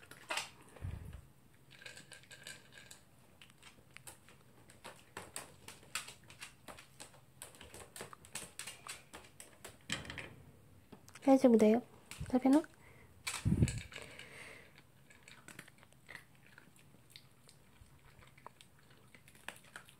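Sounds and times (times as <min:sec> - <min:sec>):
dog crunching dry kibble: 0:00.0 - 0:00.8, 0:01.5 - 0:09.9, 0:12.0 - 0:19.9.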